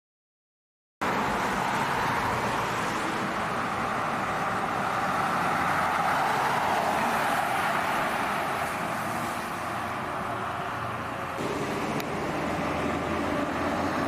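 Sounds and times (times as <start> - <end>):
motor vehicle and road noise: 1.0 - 14.0.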